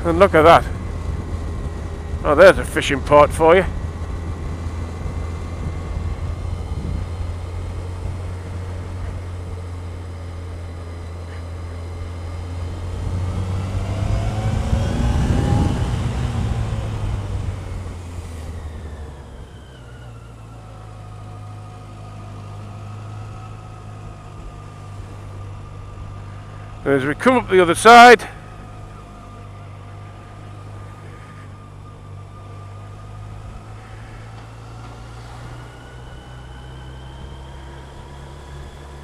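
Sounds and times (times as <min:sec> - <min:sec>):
motorcycle engine running: 0:00.0 - 0:36.3
van passing by: 0:00.0 - 0:39.0.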